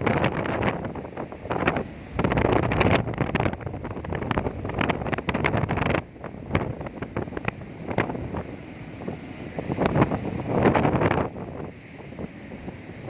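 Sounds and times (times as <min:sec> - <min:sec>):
sea waves breaking: 0:00.0 - 0:13.0
wind buffeting microphone: 0:00.0 - 0:13.0.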